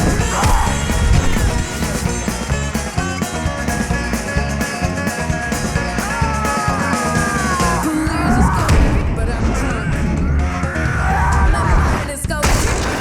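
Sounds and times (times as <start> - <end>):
electric guitar note bending: 0.0 - 11.9
rock music: 0.0 - 13.0.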